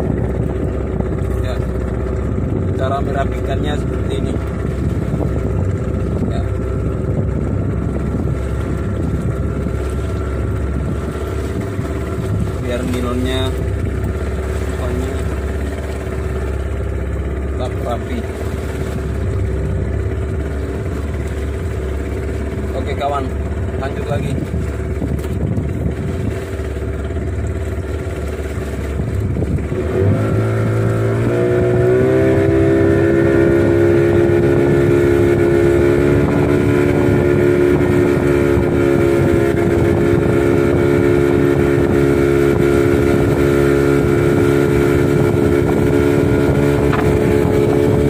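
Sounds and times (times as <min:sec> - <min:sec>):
outboard motors running: 0:00.0 - 0:48.0.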